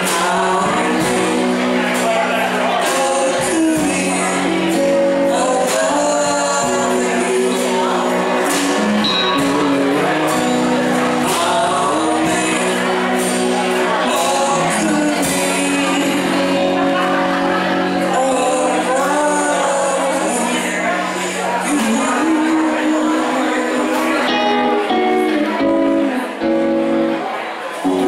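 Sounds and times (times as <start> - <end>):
acoustic guitar: 0.0 - 28.0
drums: 0.0 - 28.0
electric guitar: 0.0 - 28.0.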